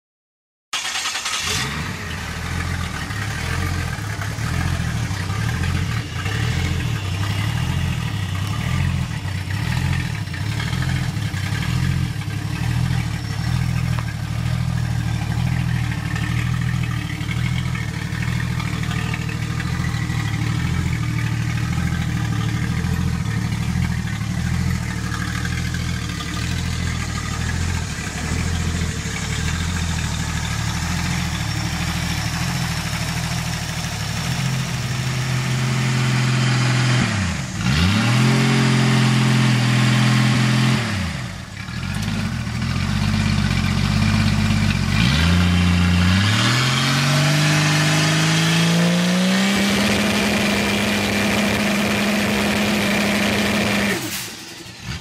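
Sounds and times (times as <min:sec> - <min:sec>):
car engine idling: 0:00.8 - 0:48.4, 0:49.2 - 0:55.0.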